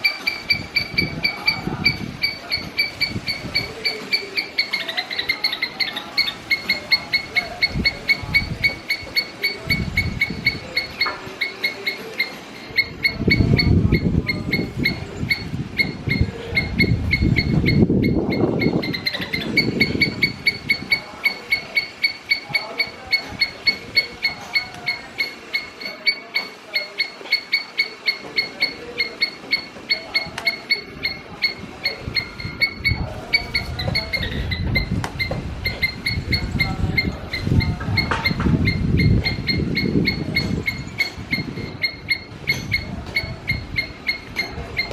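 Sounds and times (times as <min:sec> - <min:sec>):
squirrel chirping: 0:00.0 - 0:44.9.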